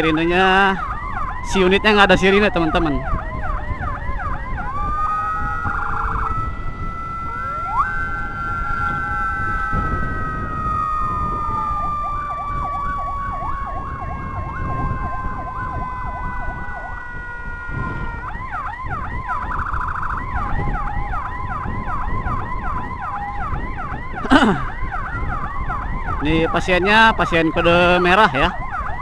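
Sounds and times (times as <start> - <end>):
electronic siren: 0.0 - 29.0
engine and road noise: 0.0 - 29.0.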